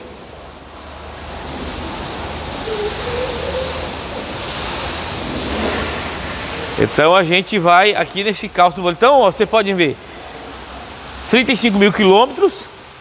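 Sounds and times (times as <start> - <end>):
rushing hiss: 0.7 - 13.0.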